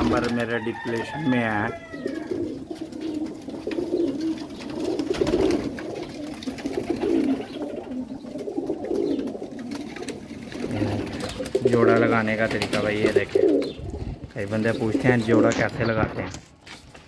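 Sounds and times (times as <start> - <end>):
pigeons cooing: 0.0 - 16.2.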